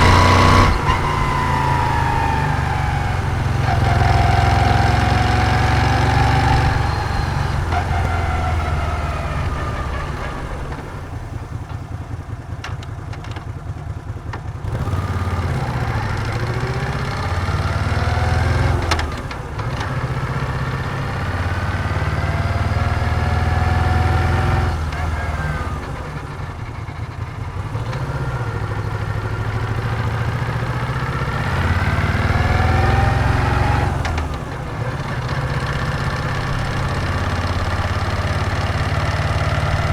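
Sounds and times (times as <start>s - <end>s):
motorcycle engine revving: 0.0s - 12.5s, 14.5s - 39.9s.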